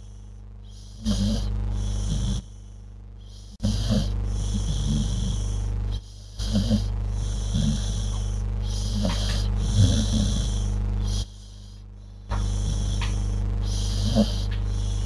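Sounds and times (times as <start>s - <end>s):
dog snoring and snorting: 0.0s - 15.0s.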